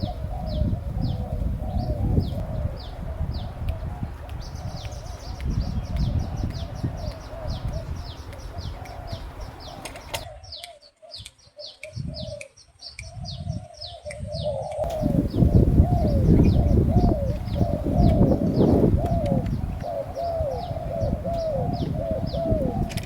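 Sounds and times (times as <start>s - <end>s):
doves cooing: 0.0s - 12.6s, 13.6s - 23.0s
small bird chirping: 0.0s - 23.0s.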